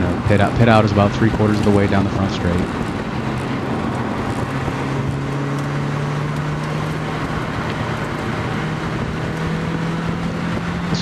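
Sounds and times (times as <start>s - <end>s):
car engine accelerating: 0.0s - 11.0s
road and wind noise: 0.0s - 11.0s.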